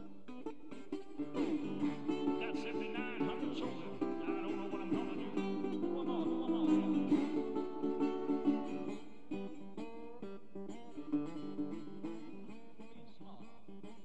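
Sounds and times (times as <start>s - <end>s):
resonator guitar blues playing: 0.0s - 14.0s.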